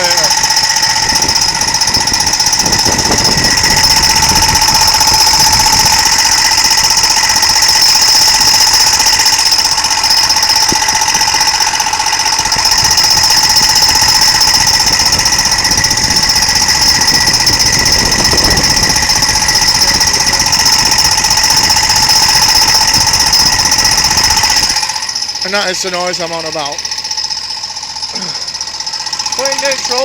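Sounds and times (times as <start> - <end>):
high-pitched whine with buzz: 0.0 - 28.5.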